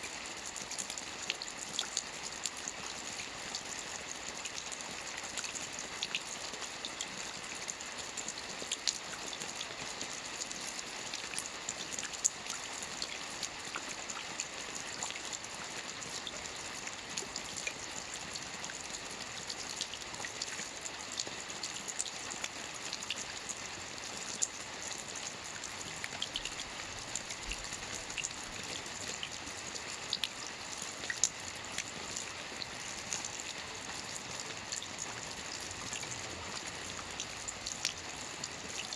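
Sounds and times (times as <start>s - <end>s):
rain falling on water: 0.0s - 38.9s.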